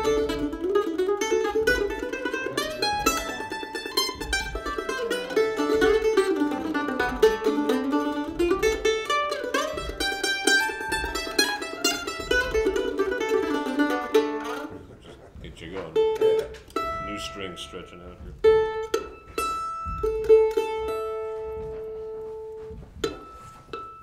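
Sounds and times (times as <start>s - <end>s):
mandolin picking quick runs: 0.0s - 24.0s.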